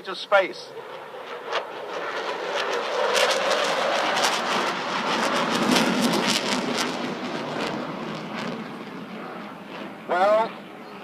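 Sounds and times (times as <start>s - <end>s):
jet engine roar with crackle: 0.0s - 11.0s.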